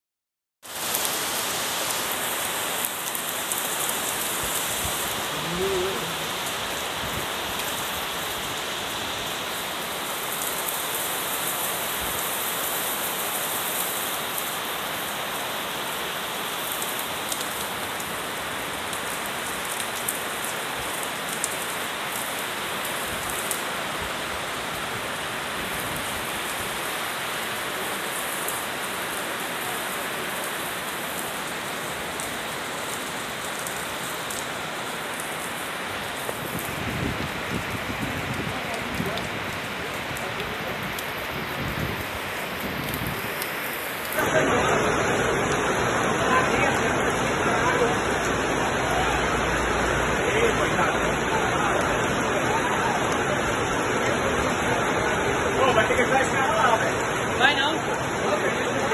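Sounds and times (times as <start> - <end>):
heavy rain on pavement: 0.6 - 58.9
sharp ticks of raindrops: 0.6 - 58.9.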